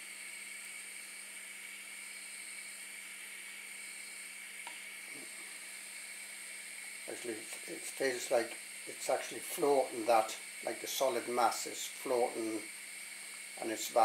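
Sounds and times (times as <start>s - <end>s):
faint hiss: 0.0s - 14.0s
low constant hum: 0.0s - 14.0s.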